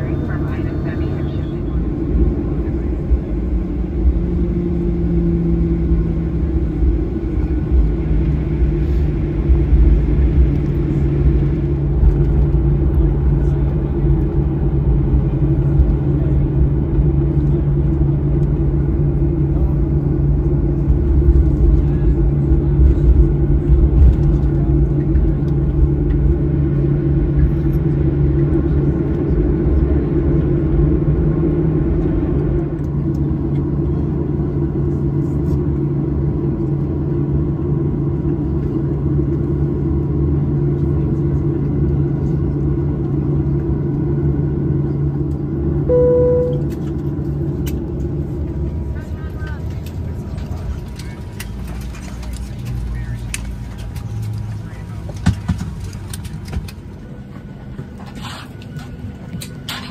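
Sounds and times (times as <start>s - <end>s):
jet engines idling in cabin: 0.0s - 59.9s.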